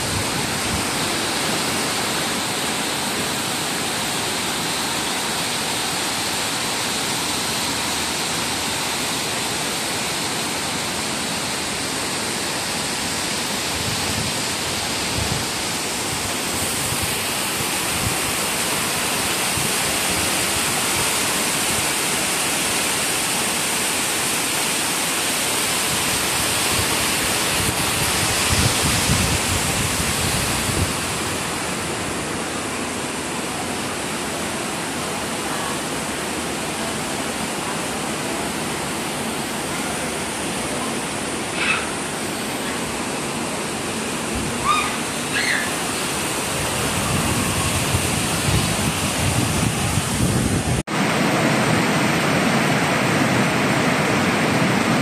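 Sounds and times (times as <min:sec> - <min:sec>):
heavy rain on metal roofs: 0:00.0 - 0:55.0.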